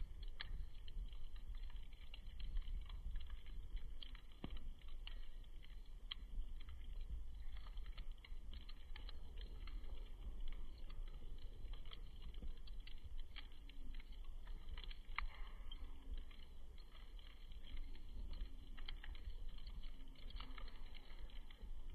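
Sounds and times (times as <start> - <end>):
campfire crackling: 0.0 - 21.9.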